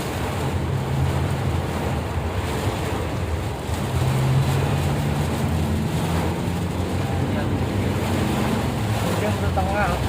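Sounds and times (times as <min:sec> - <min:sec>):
heavy rain: 0:00.0 - 0:10.0
wind: 0:00.0 - 0:10.0.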